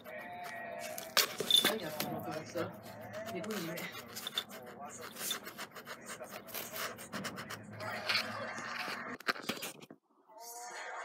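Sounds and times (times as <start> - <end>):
scratching on cardboard box: 0.0 - 9.8.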